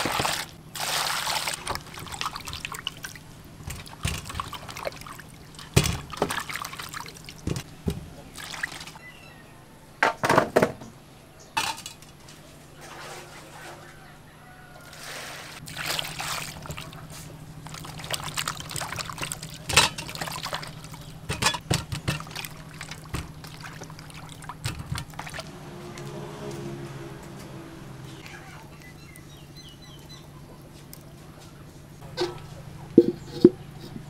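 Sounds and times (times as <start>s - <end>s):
water sloshing in a metal bowl: 0.0s - 9.0s, 11.6s - 14.1s, 14.8s - 31.2s, 32.0s - 34.0s.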